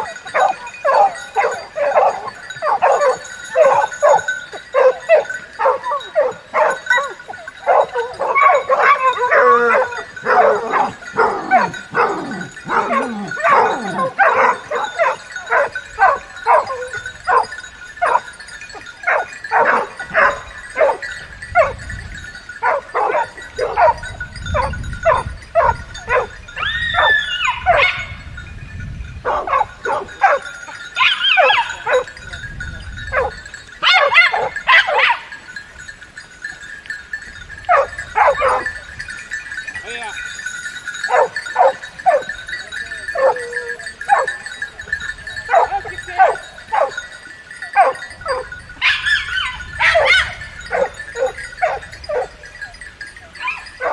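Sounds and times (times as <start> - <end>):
hounds barking and baying: 0.0 - 28.4, 29.2 - 53.9.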